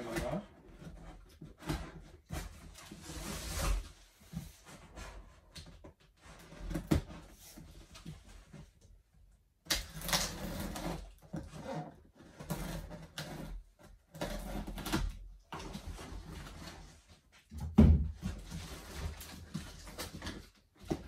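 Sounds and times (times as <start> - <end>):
cardboard rustling and scraping: 0.0 - 8.9, 9.8 - 21.0.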